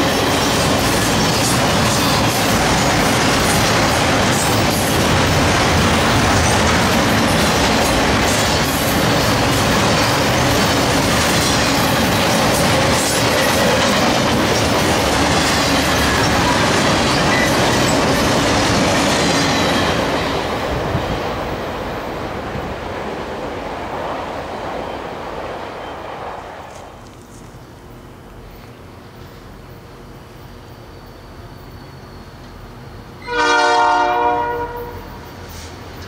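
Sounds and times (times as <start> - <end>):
train wheels rumbling and clacking: 0.0 - 36.0.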